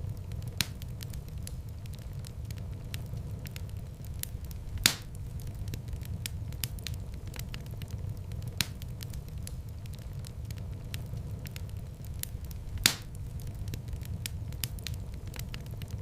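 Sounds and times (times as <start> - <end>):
loud fire pops: 0.0 - 16.0
low rumble of flames: 0.0 - 16.0
wood fire crackling: 0.0 - 16.0.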